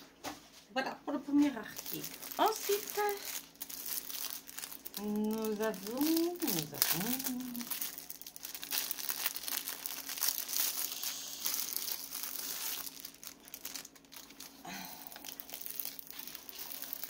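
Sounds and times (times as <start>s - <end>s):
plastic wrapping crinkling: 1.3s - 17.0s.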